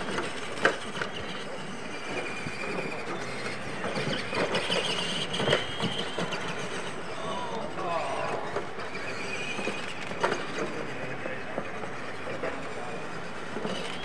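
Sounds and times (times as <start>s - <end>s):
toy truck motors whining: 0.0s - 14.0s
tyres on dirt: 0.0s - 14.0s.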